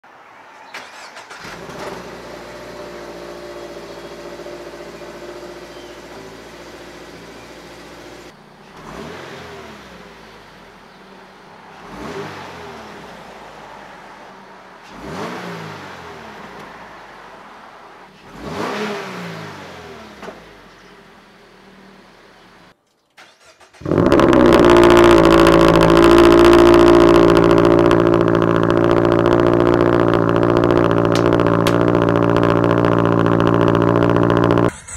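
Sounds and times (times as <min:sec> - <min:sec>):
car engine starting: 0:00.4 - 0:34.9
car engine idling: 0:00.8 - 0:18.6, 0:19.6 - 0:22.8, 0:23.7 - 0:34.9
car engine revving: 0:00.8 - 0:22.8, 0:23.4 - 0:34.9.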